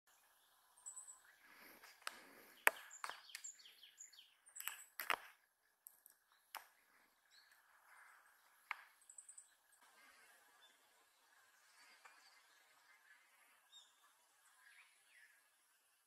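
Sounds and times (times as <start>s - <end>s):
birds chirping: 0.1s - 15.8s.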